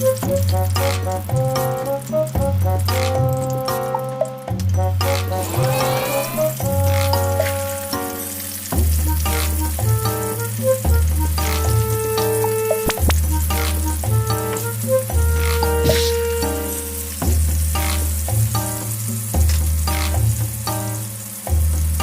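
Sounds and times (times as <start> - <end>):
background music with bass line: 0.0 - 22.0
tofu sizzling in hot oil: 0.0 - 22.0.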